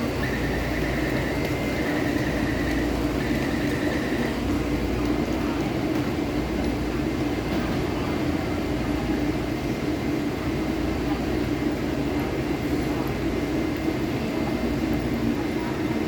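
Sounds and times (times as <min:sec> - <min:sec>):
electric train humming: 0:00.0 - 0:16.0.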